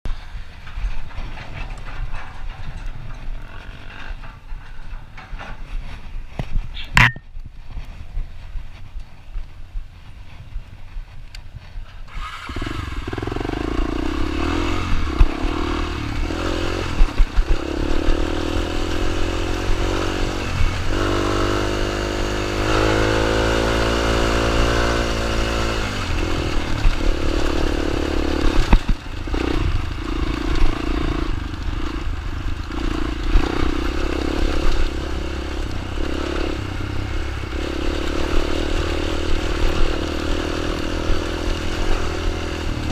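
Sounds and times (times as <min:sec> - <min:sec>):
dirt bike engine running: 0:00.1 - 0:42.9.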